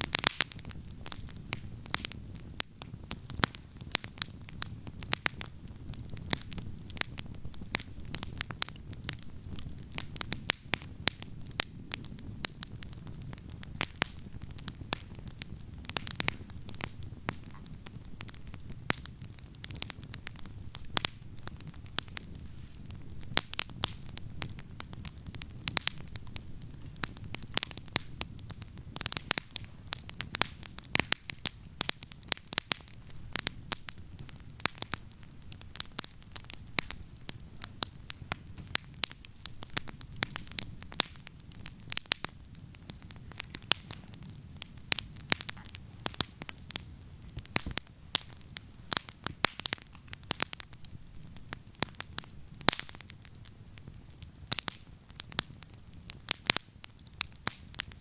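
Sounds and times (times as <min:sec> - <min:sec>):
campfire crackling: 0:00.0 - 0:58.0
low rush of flame: 0:00.0 - 0:58.0.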